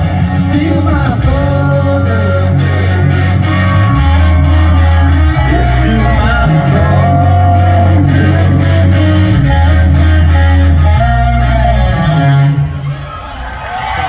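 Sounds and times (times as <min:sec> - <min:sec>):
country-rock band playing: 0:00.0 - 0:12.9
held bass notes: 0:00.0 - 0:13.2
electric guitar lines: 0:00.0 - 0:14.0.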